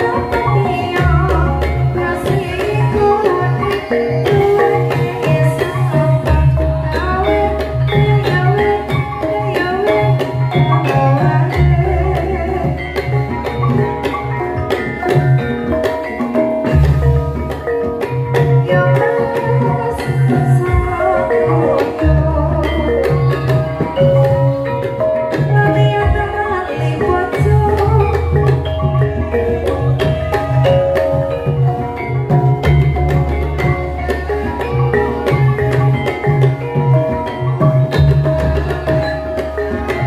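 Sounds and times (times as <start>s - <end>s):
low repeating drum pattern: 0.0s - 40.0s
metallophones ringing: 0.0s - 40.0s
rapid hand-drum strokes: 0.0s - 40.0s.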